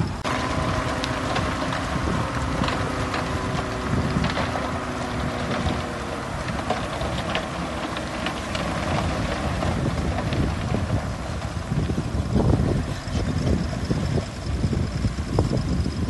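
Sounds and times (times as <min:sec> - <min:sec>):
heavy machinery diesel engines rumbling: 0:00.0 - 0:16.0
wind buffeting microphone: 0:00.0 - 0:16.0.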